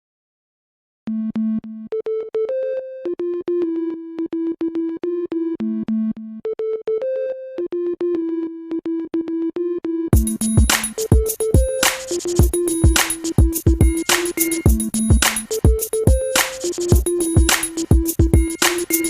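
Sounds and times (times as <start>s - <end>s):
looping synthesizer melody: 1.1s - 19.0s.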